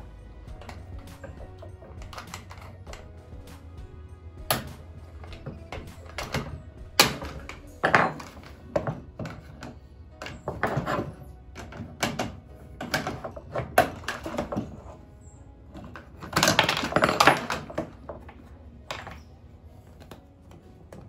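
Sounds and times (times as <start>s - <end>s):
background music: 0.0s - 21.0s
plastic parts knocking: 0.5s - 3.5s, 4.4s - 15.0s, 15.7s - 19.3s.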